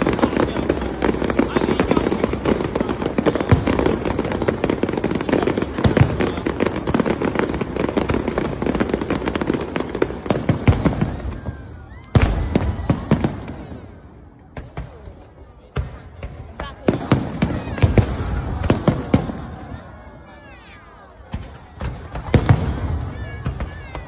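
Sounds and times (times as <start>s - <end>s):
fireworks crackling and banging: 0.0s - 24.0s.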